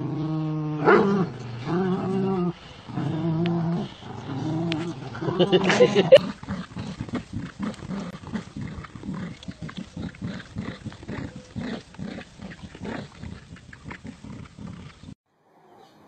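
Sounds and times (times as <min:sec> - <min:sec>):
dogs growling in play: 0:00.0 - 0:15.2.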